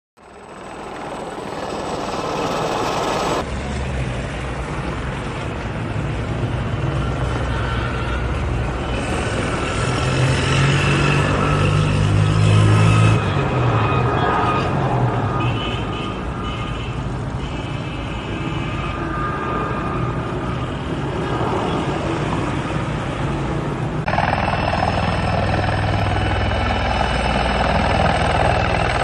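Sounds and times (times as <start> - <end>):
helicopter rotor and engine noise: 0.2 - 29.0.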